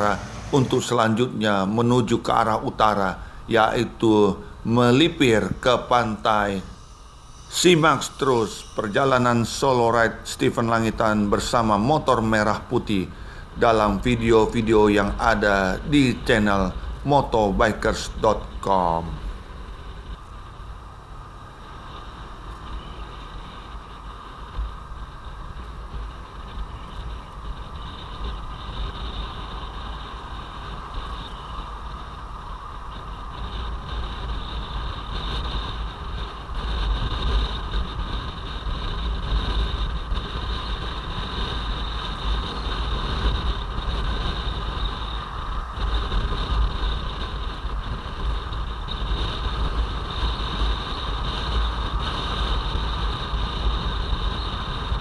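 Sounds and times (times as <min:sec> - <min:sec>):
motorcycle engine: 0:00.0 - 0:01.8, 0:02.9 - 0:10.3, 0:19.2 - 0:55.0
wind rushing over microphone: 0:00.0 - 0:55.0.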